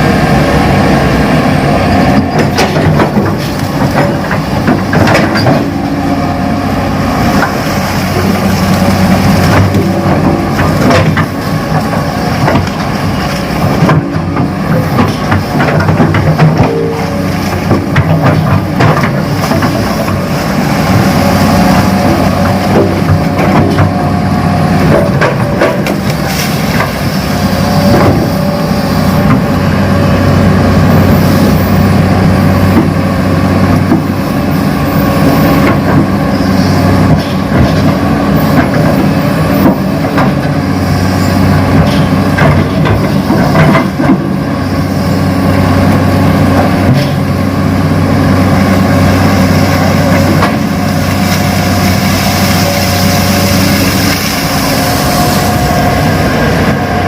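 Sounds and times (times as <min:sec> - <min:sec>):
model excavator engine drone: 0:00.0 - 0:57.0.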